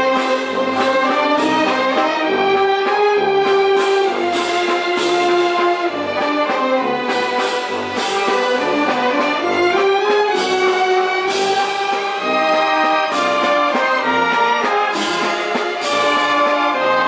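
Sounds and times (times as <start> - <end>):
orchestra playing: 0.0 - 17.0.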